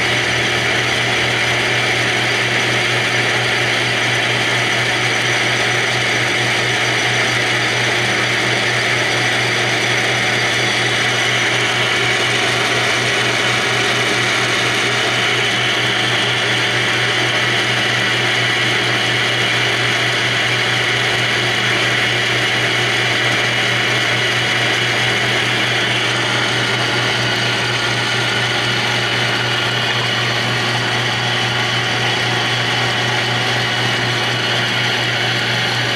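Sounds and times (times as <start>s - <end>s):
lathe running: 0.0s - 35.9s.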